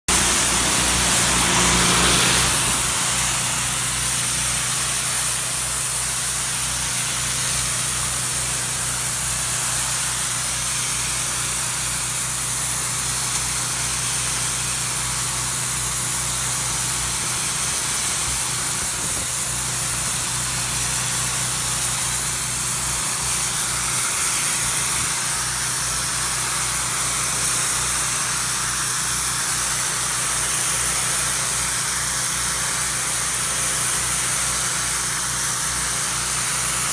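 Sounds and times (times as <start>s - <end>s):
pressure washer engine hum: 0.0s - 36.9s
pressure washer spray hiss: 0.1s - 36.9s.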